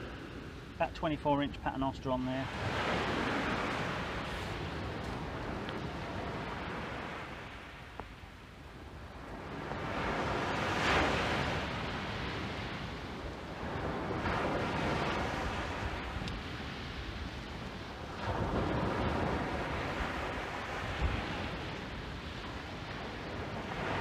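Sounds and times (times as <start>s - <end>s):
wind rumble on microphone: 0.0s - 1.7s, 2.4s - 24.0s
surf breaking on a beach: 0.0s - 24.0s.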